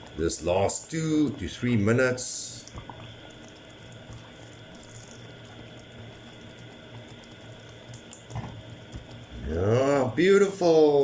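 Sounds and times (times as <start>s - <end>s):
filling bubbling in a pot: 0.0s - 11.0s.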